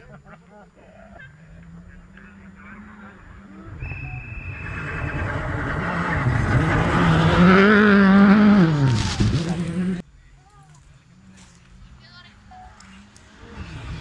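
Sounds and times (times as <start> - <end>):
rally car engine approaching: 0.0 - 10.0, 11.0 - 14.0.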